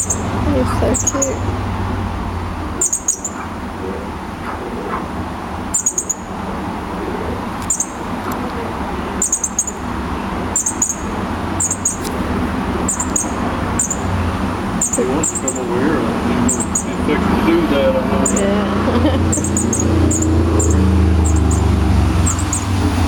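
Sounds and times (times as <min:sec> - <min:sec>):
fledgling bird chirping: 0:00.0 - 0:23.0.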